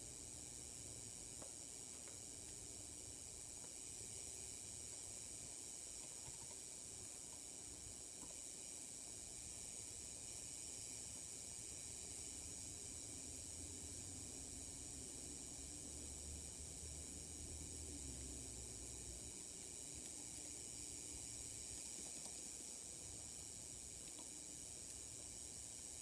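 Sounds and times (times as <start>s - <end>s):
display high-pitched buzz: 0.0s - 26.0s
faint hiss: 0.0s - 26.0s.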